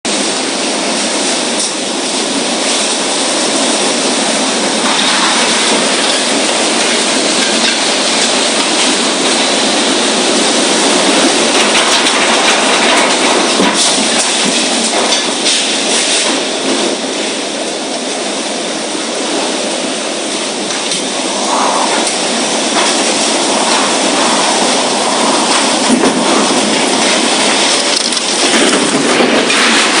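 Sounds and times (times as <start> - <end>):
strong wind rushing: 0.1 - 30.0.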